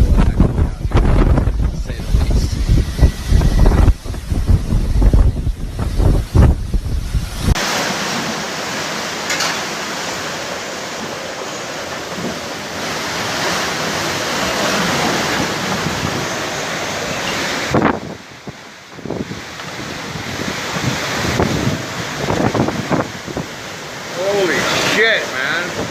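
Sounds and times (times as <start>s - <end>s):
wind buffeting microphone: 0.0s - 7.6s, 12.0s - 25.9s
rushing wind: 0.0s - 25.9s
storm waves: 0.0s - 25.9s.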